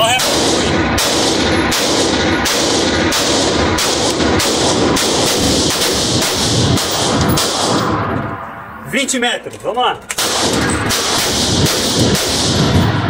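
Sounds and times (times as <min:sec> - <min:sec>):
rapid gunshots echoing indoors: 0:00.0 - 0:08.2, 0:10.2 - 0:13.0.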